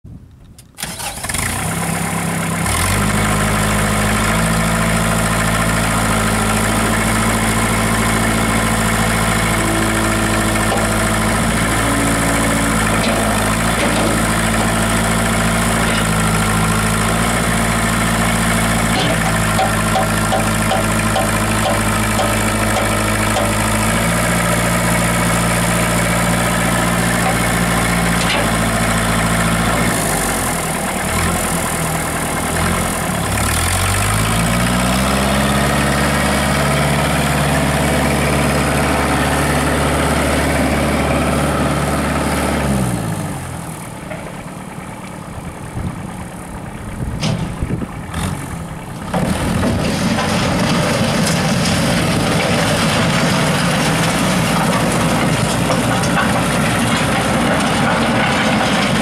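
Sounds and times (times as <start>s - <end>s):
tractor diesel engine running: 0.2s - 59.0s.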